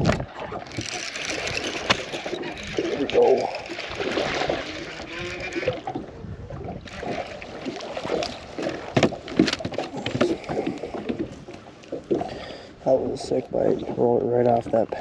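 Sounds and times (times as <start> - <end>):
knocks and clicks in a boat: 0.0 - 15.0.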